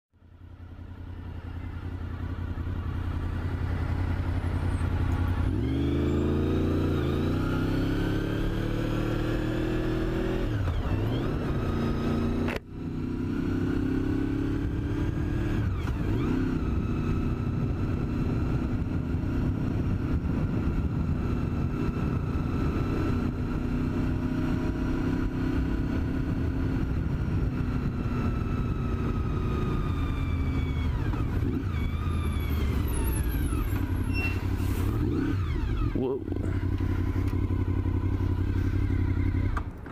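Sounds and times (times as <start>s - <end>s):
motorbike engine accelerating: 0.9s - 39.9s.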